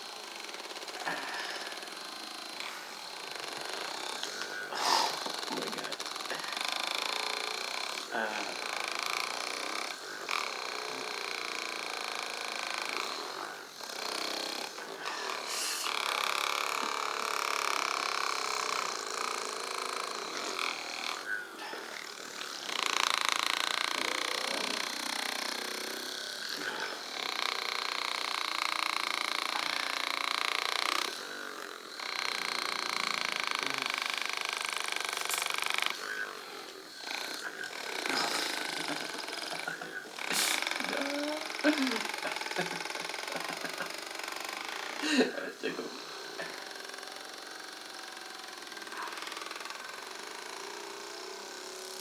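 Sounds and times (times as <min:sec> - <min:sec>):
electric device buzzing: 0:00.0 - 0:52.0.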